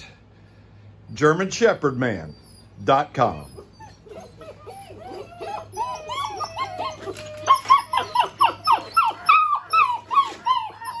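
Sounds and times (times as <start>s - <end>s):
puppies whining and yipping: 1.6s - 11.0s.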